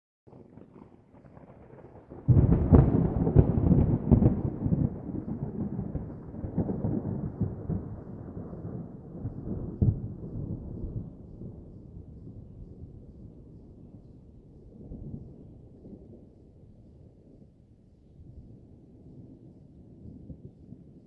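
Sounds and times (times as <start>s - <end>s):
thunder crackling and rumbling: 0.3s - 21.0s.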